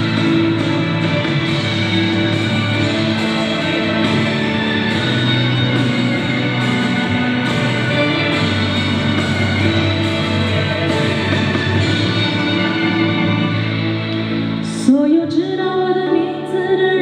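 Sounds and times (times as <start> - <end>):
pop-rock instrumental with guitar: 0.0 - 17.0.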